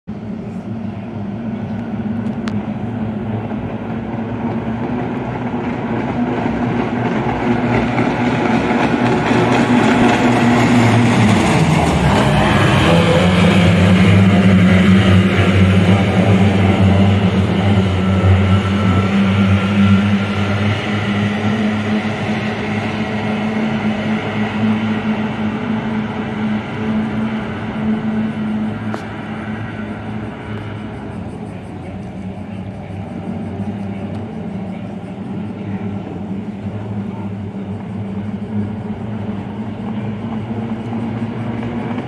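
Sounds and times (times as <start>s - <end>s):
racing boat outboard engines droning: 0.1s - 42.0s.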